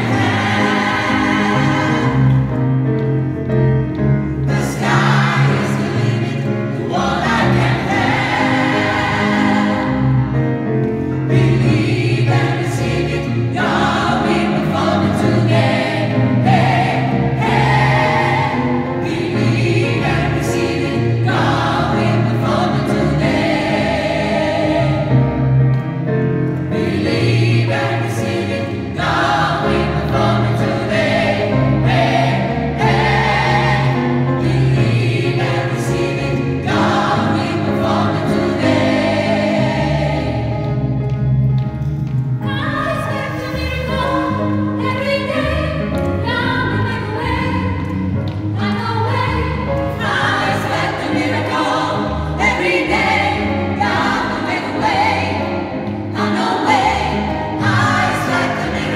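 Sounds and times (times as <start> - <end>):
gospel choir singing: 0.0 - 41.4, 42.5 - 58.9.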